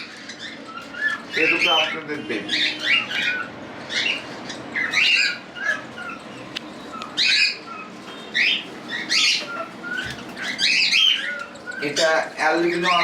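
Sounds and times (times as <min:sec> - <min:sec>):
cockatiels squawking: 0:00.0 - 0:13.0.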